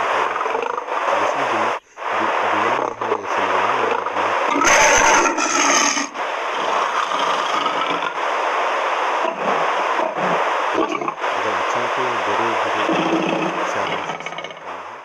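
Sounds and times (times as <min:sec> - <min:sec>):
recorded lion roar from phone: 0:00.0 - 0:08.2, 0:09.2 - 0:14.9
steady raspy noise: 0:00.0 - 0:15.0.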